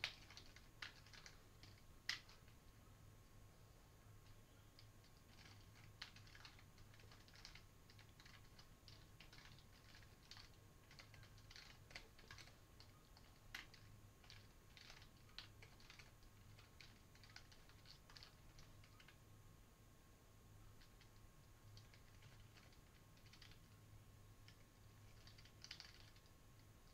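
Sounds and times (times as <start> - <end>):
computer keyboard typing: 0.0 - 2.6, 4.2 - 19.2, 20.7 - 23.8, 24.4 - 26.9.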